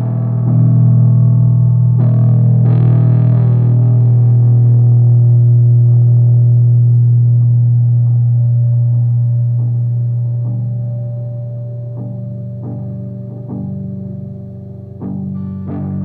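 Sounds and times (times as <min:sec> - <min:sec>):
distorted guitar layer: 0:00.0 - 0:16.0
electric guitar drone: 0:00.0 - 0:16.0.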